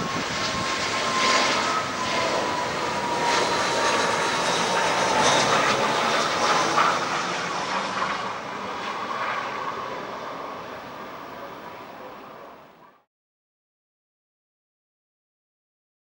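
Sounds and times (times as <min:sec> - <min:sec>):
jet engine passing: 0:00.0 - 0:13.0.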